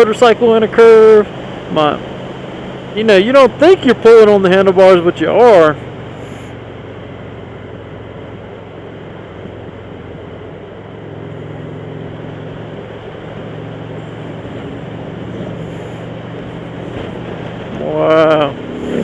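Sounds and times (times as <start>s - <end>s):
wind and road rush: 0.0s - 19.0s
motorcycle engine running: 3.6s - 19.0s.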